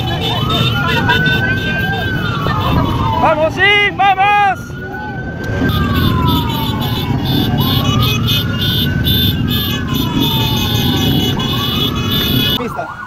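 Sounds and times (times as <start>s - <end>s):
dense background din: 0.0s - 12.9s
emergency siren wailing: 0.0s - 13.0s.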